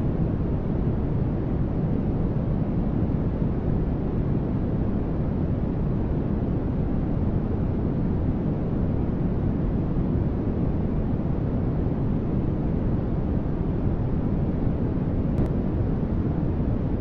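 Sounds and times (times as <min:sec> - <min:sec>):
white noise static: 0:00.0 - 0:17.0.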